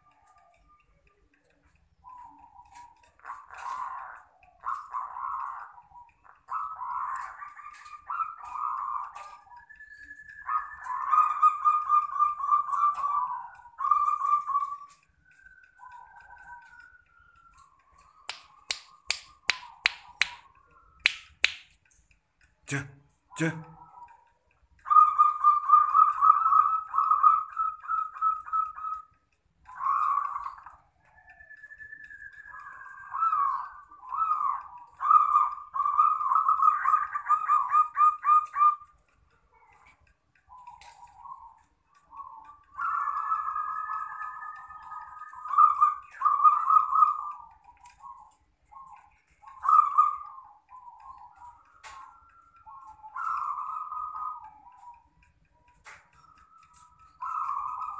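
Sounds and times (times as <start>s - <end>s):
dove cooing: 0.0s - 21.0s, 22.8s - 57.9s.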